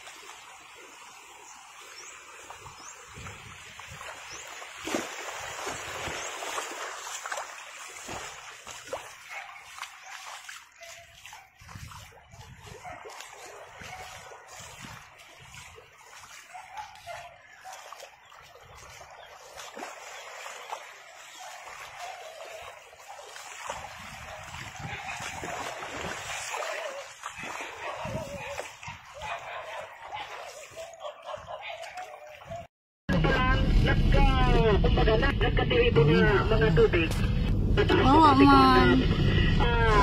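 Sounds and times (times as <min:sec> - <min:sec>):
floodwater rushing: 0:00.0 - 0:32.7, 0:36.3 - 0:40.0.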